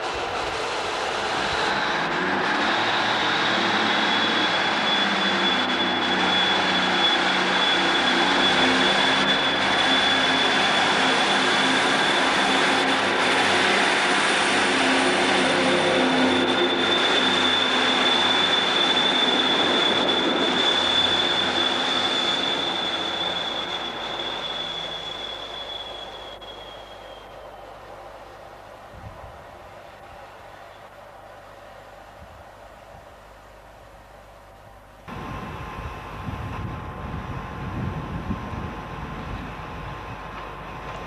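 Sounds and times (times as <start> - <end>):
diesel train engines under load: 0.0 - 41.0
steady high whine: 0.0 - 41.0.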